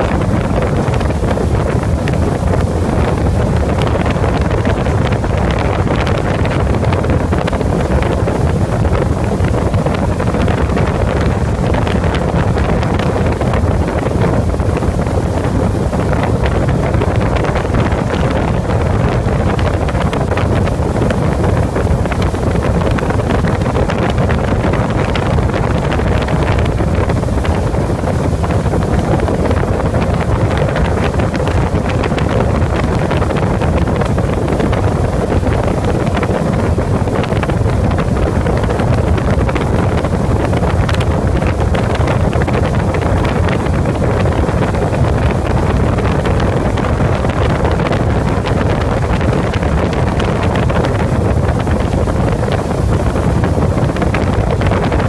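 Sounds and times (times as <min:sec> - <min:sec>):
boat engine drone: 0:00.0 - 0:55.0
rush of boat wake: 0:00.0 - 0:55.0
wind buffeting microphone: 0:00.0 - 0:55.0.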